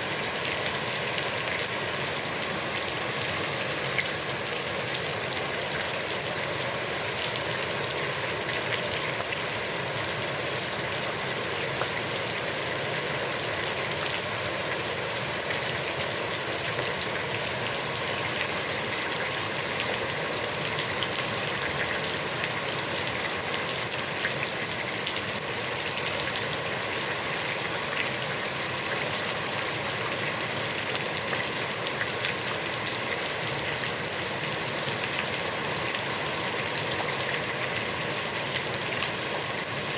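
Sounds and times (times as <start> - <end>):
heavy rain on pond water: 0.0 - 39.9.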